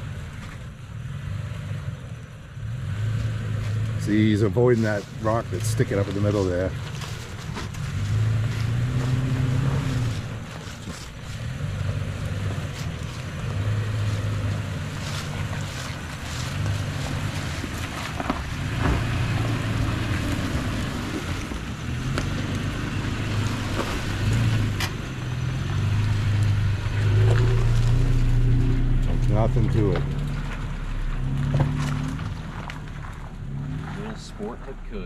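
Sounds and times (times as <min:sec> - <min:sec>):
off-road vehicle engine at low revs: 0:00.0 - 0:35.0.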